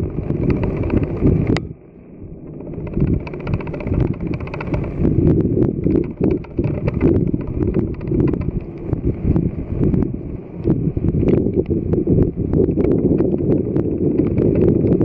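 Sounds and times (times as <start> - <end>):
wind buffeting microphone: 0.0 - 15.0
rain ticking on microphone: 2.5 - 15.0.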